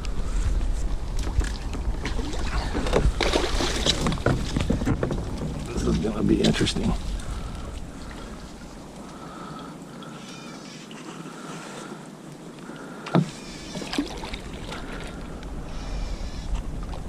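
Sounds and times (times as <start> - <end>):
rain and water noise: 0.0 - 15.8.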